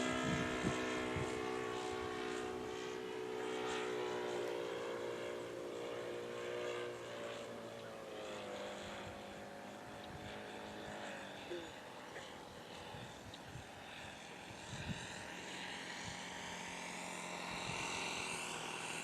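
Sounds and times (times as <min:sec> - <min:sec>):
model airplane engine drone: 0:00.0 - 0:19.0.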